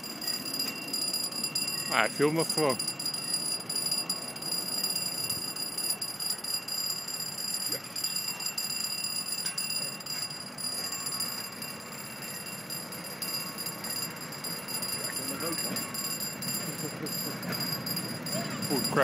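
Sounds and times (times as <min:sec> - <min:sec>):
distant rail yard noise: 0:00.0 - 0:19.0
level crossing warning tone: 0:00.0 - 0:19.0
street noise: 0:00.0 - 0:19.0.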